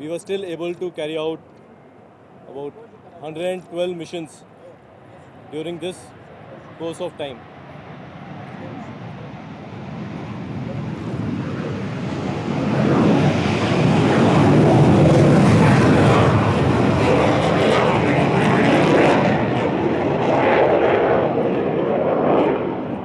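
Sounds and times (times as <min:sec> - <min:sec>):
aircraft engines running: 0:00.0 - 0:23.0.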